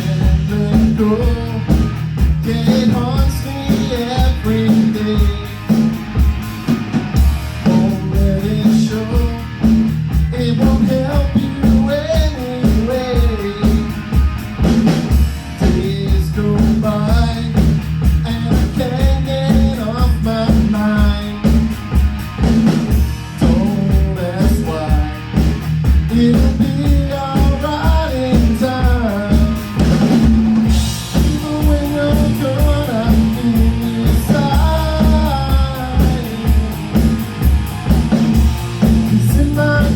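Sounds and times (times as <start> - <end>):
driving drum beat: 0.0 - 39.9
rock band playing live: 0.0 - 39.9.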